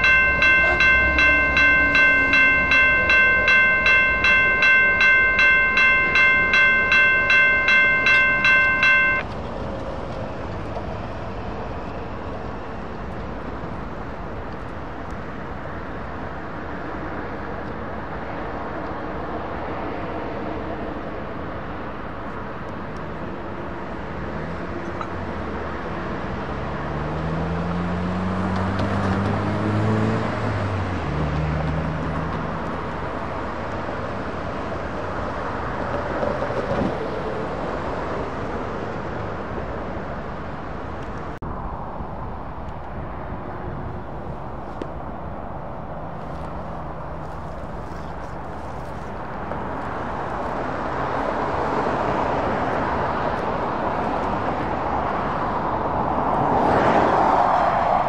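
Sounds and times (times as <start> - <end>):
outdoor traffic noise: 0.0 - 58.0.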